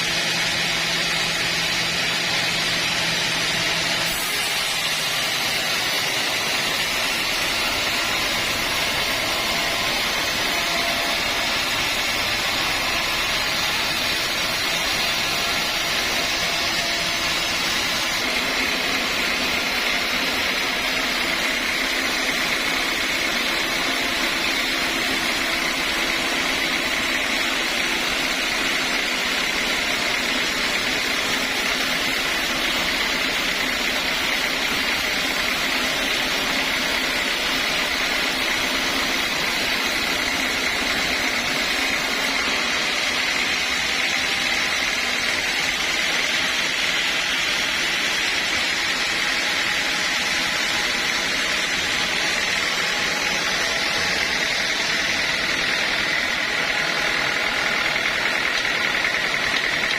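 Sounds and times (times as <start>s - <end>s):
saw running with high whine: 0.0s - 59.9s.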